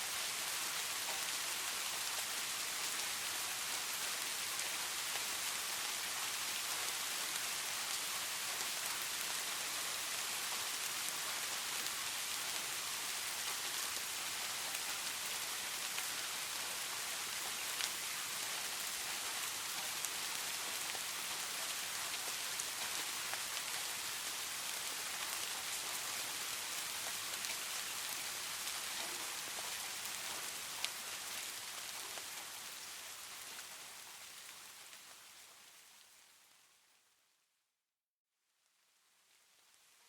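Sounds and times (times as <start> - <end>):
steady rain: 0.0 - 37.4, 38.6 - 40.0.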